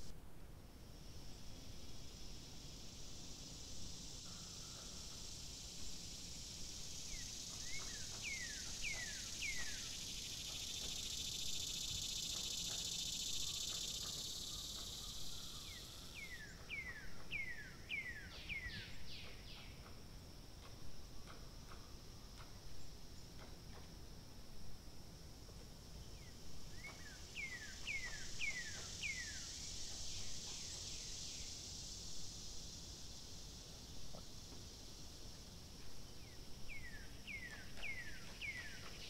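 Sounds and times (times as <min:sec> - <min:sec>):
high insect buzz: 0:00.8 - 0:39.0.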